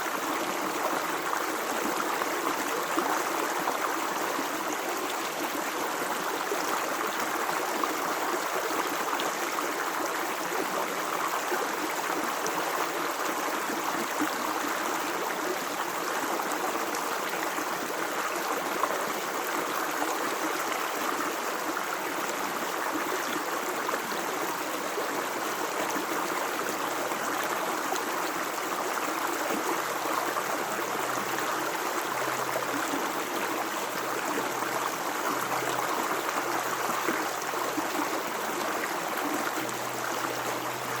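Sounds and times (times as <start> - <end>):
stream flowing and splashing: 0.0 - 41.0.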